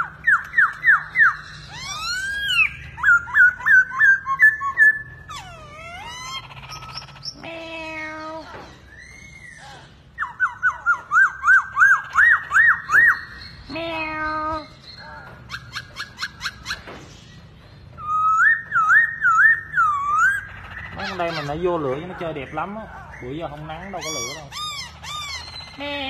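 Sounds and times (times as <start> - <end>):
songbirds whistling and trilling: 0.0 - 26.0.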